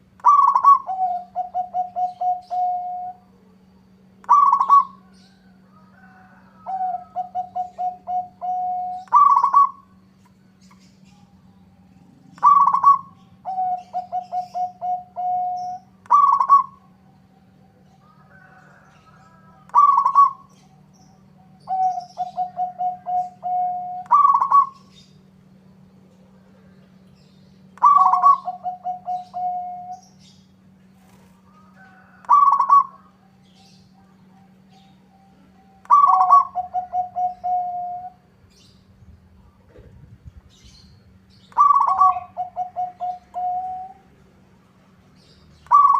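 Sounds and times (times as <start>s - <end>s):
dove cooing: 0.0s - 25.2s, 27.7s - 38.4s, 39.5s - 44.2s, 45.2s - 45.9s
steady low hum: 0.0s - 45.9s.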